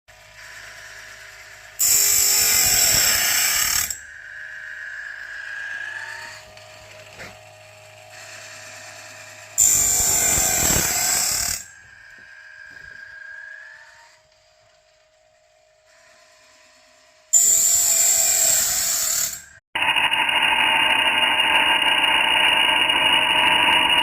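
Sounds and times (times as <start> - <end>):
grinding wheel grinding blade: 0.1 - 24.0
machine feed mechanism whine: 0.1 - 24.0.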